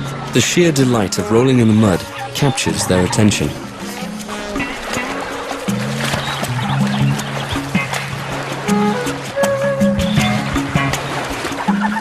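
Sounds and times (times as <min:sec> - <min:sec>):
music with low held notes: 0:00.0 - 0:12.0.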